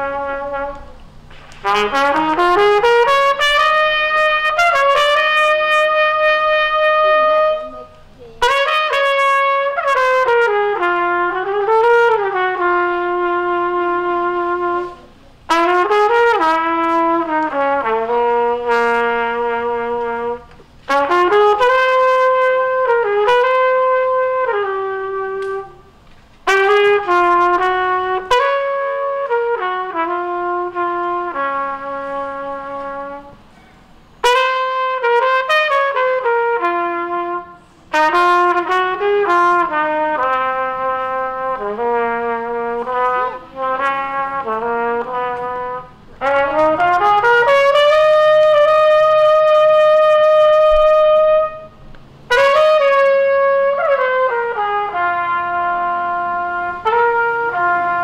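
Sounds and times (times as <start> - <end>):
trumpet playing slow melody: 0.0 - 58.0.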